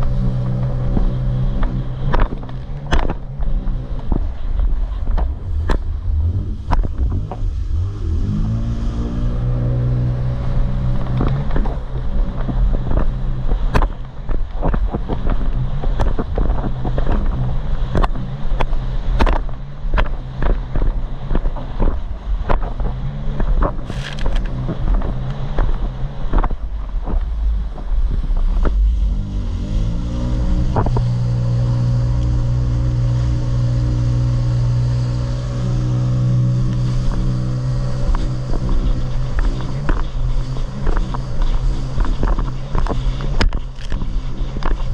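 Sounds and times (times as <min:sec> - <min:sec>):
hull slapping across waves: 0:00.0 - 0:07.8, 0:08.4 - 0:44.9
jet ski engine running: 0:00.0 - 0:44.9.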